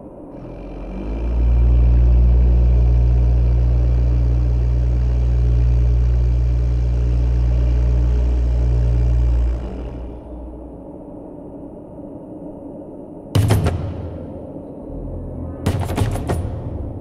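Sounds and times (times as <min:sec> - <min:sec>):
deep rumbling electronic drone: 0:00.0 - 0:17.0
faint hissing textures: 0:00.0 - 0:17.0.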